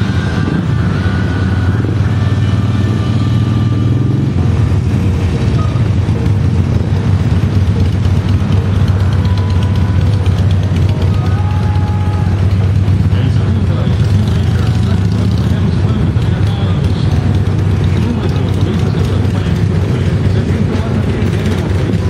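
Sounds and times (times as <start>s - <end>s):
motorcycle engines droning: 0.0s - 22.0s.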